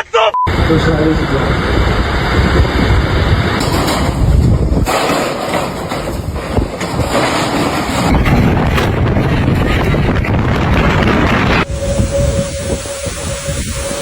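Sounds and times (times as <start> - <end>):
strong wind on microphone: 0.4 - 14.0.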